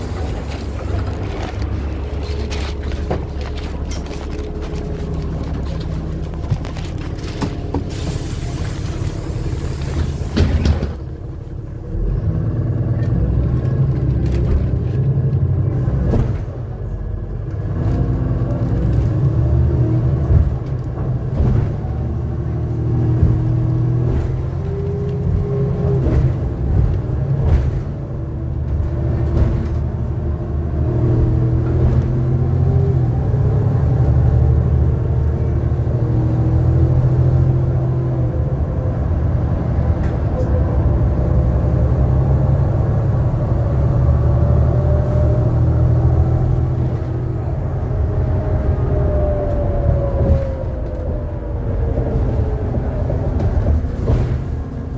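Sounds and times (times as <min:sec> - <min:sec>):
bus engine drone: 0:00.0 - 0:54.9
road rumble: 0:00.0 - 0:54.9.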